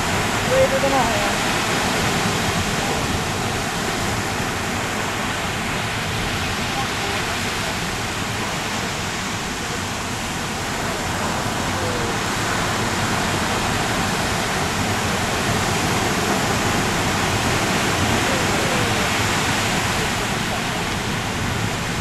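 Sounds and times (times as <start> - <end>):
surf rushing: 0.0 - 22.0
wind: 0.0 - 22.0.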